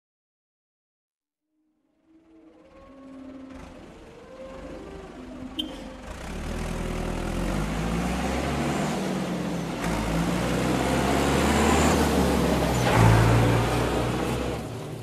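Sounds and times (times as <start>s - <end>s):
vehicle engine pulling away: 2.1s - 15.0s.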